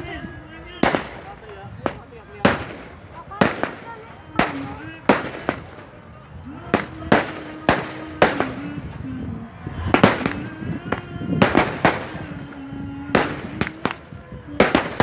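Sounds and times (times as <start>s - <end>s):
fireworks banging: 0.0s - 15.0s.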